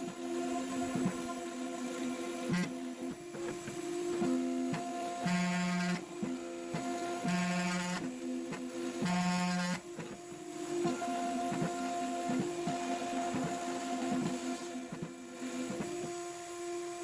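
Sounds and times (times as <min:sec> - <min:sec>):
machine hum: 0:00.0 - 0:16.5.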